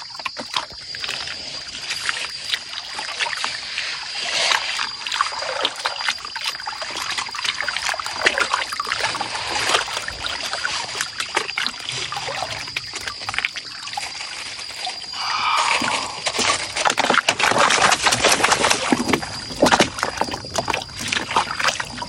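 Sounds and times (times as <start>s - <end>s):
water sloshing in a plastic pan: 0.0s - 15.1s, 16.2s - 22.0s.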